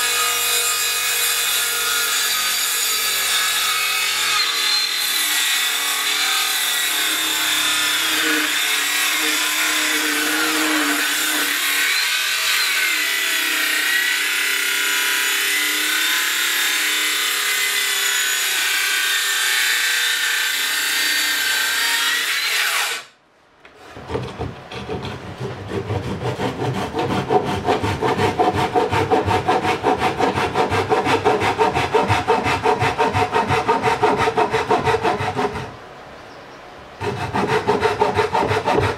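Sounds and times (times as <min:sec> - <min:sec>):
circular saw cutting wood: 0:00.0 - 0:23.2, 0:24.0 - 0:35.8, 0:37.0 - 0:38.9
hand saw cutting wood: 0:00.0 - 0:23.2, 0:23.8 - 0:35.8, 0:37.0 - 0:38.9.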